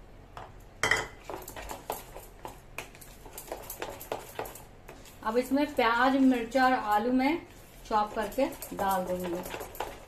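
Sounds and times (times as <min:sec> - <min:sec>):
spoon beating batter in bowl: 0:00.4 - 0:10.0.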